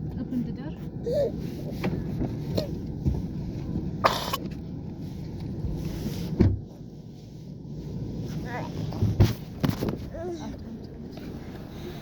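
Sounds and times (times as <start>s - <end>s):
low rumble inside a car: 0.0s - 12.0s.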